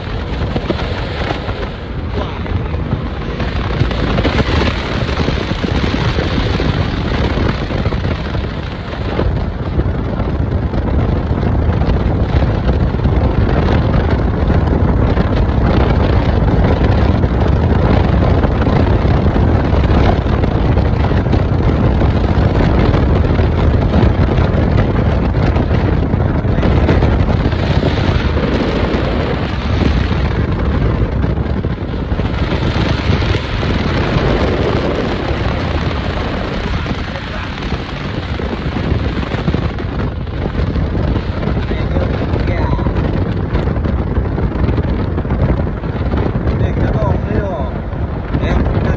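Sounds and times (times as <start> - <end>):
car road noise: 0.0 - 48.9
wind buffeting microphone: 0.0 - 48.9.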